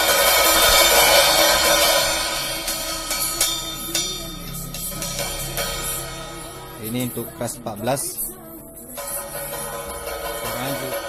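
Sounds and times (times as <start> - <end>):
crash cymbal ringing: 0.0 - 11.0.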